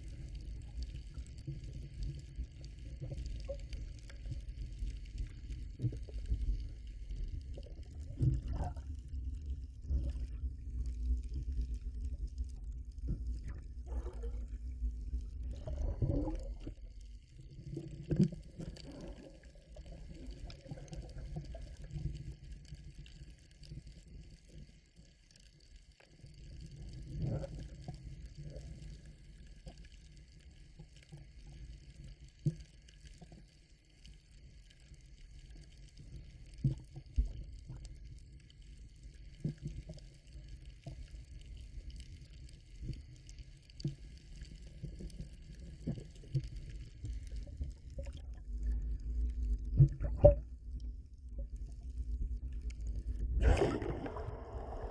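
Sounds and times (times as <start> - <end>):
underwater rumble of moving water: 0.0 - 54.9.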